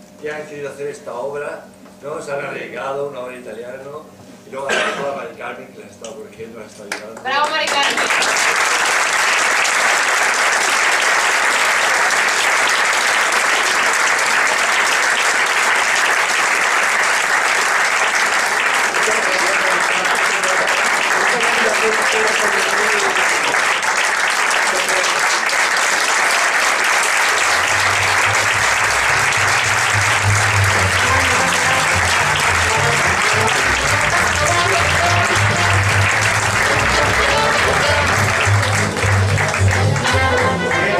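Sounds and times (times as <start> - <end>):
audience applause: 7.3 - 40.9.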